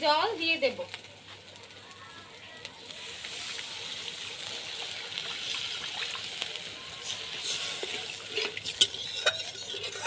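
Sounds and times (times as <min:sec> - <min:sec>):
water hissing in hot oil: 0:00.0 - 0:10.0.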